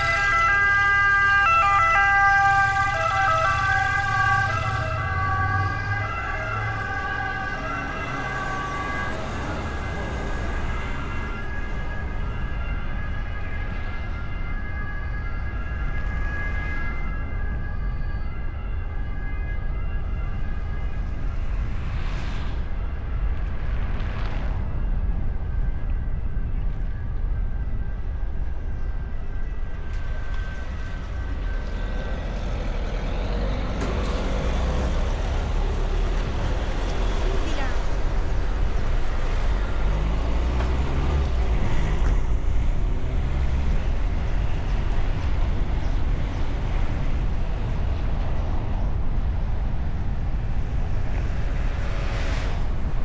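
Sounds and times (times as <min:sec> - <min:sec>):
car road and wind rumble: 0:00.0 - 0:53.0
two-tone emergency siren: 0:00.0 - 0:53.0.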